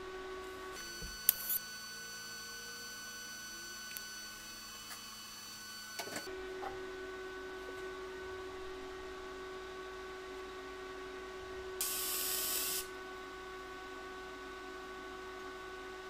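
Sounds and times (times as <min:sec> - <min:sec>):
welder electrical hum and whine: 0:00.0 - 0:16.0.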